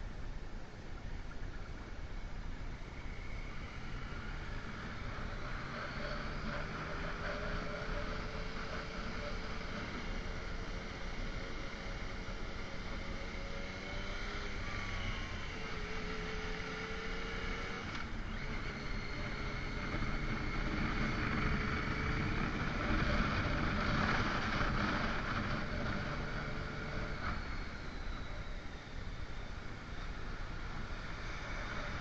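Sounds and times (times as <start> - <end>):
road noise: 0.0 - 32.0
motorcycle engine running: 1.6 - 32.0.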